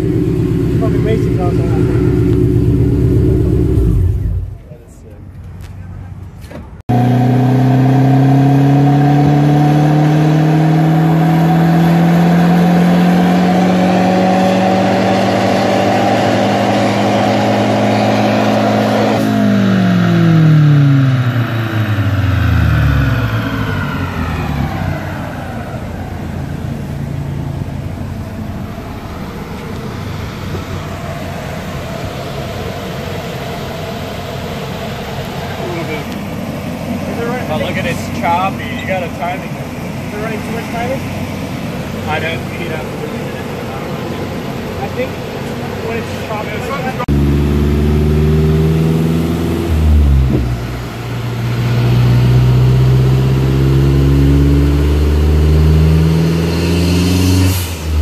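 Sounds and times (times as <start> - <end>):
car engine revving on dyno: 0.0 - 4.6, 6.8 - 58.0.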